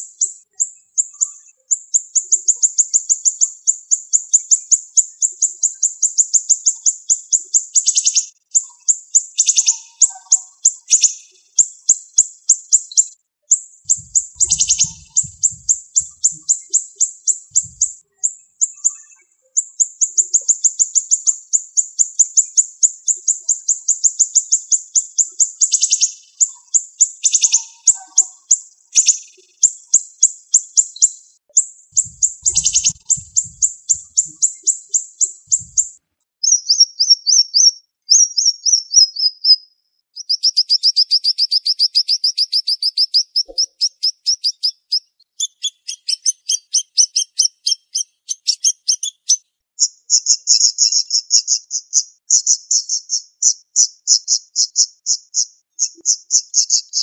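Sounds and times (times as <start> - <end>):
songbird singing high-pitched notes: 0.0 - 57.0.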